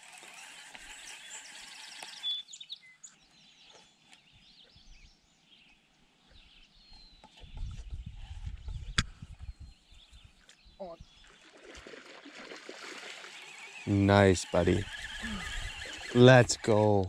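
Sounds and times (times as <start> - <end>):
small birds chirping: 0.3 - 11.6, 13.1 - 17.0.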